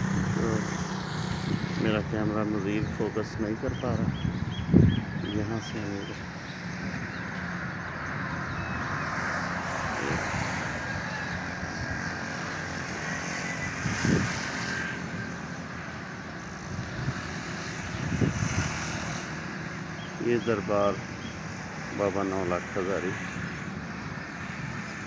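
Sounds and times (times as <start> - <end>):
outdoor rumble and hiss: 0.0 - 25.0.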